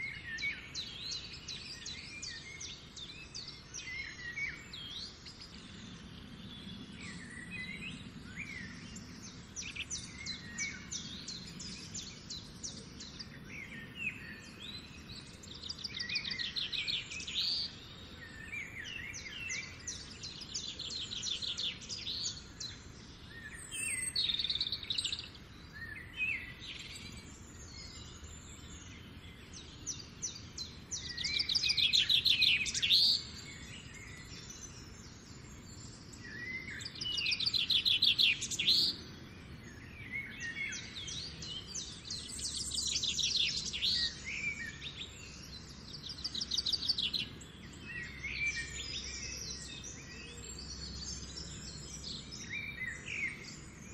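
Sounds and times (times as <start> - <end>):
songbirds trilling: 0.0 - 53.9.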